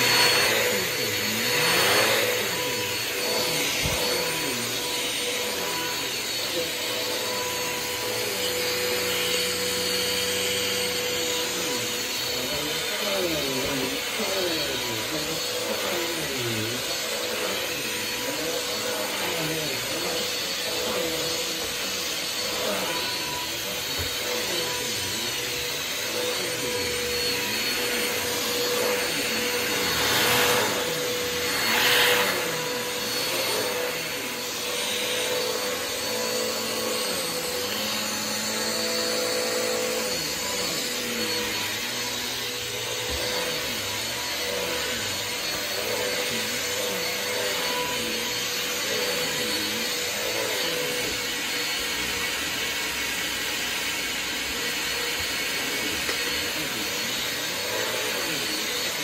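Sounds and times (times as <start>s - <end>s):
vacuum cleaner on carpet: 0.0s - 59.0s.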